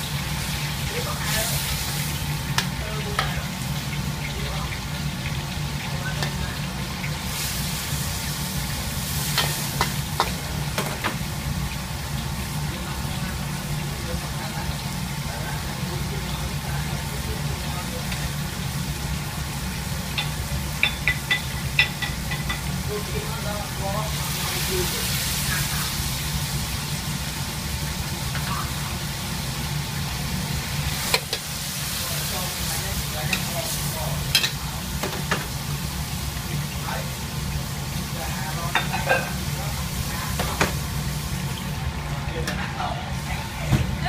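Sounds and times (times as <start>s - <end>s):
sauce sizzling and bubbling: 0.0s - 44.0s.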